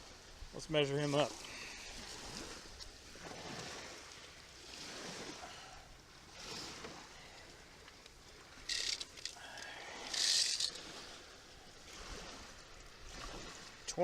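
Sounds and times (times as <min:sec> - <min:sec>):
water along shore: 0:00.0 - 0:14.0
wind: 0:00.0 - 0:14.0.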